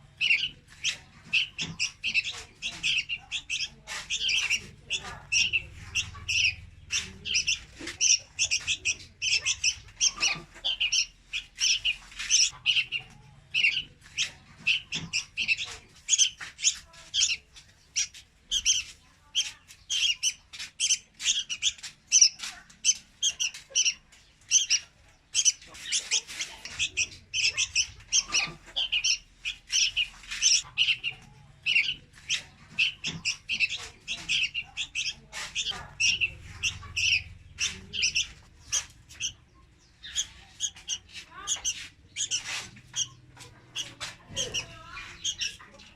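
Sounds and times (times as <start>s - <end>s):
bird chirping rapidly: 0.1s - 45.9s.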